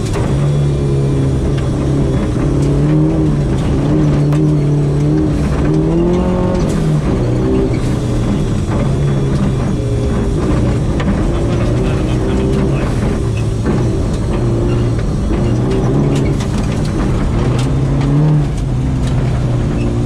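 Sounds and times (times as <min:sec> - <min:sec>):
rally car engine running hard: 0:00.0 - 0:20.0.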